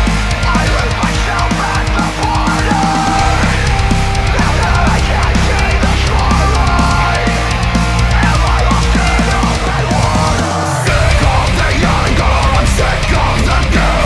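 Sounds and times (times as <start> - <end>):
heavy rock music: 0.0 - 14.0
steady drum beat: 0.0 - 14.0.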